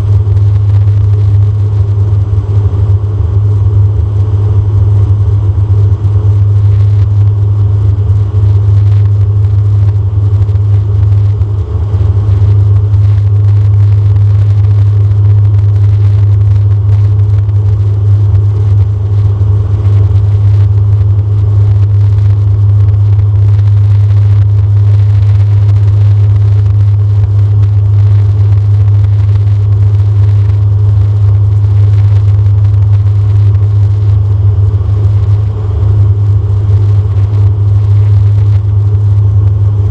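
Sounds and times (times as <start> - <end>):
propeller hum: 0.0 - 39.9.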